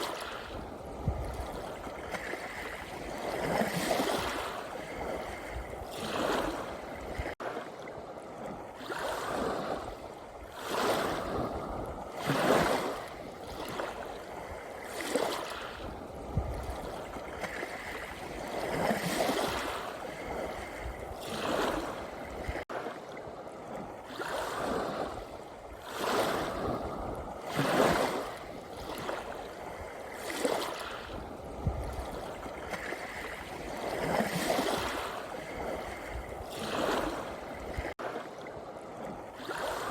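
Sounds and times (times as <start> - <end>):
small sea waves lapping: 0.0 - 39.9.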